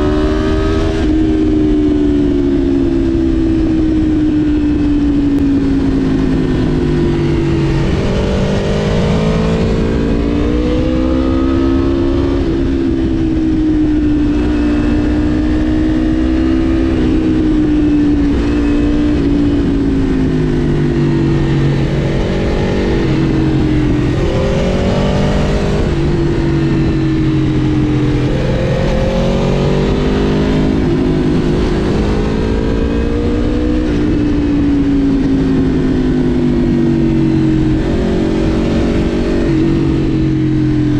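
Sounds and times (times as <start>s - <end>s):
motorcycle engine revving: 0.0s - 40.9s
steady rushing noise: 0.0s - 40.9s.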